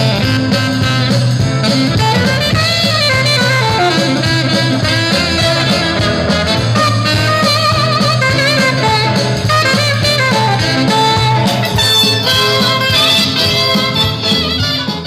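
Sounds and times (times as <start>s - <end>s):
bass and drums: 0.0s - 15.0s
jazz swing band playing: 0.0s - 15.0s
saxophone and brass melody: 0.0s - 15.0s.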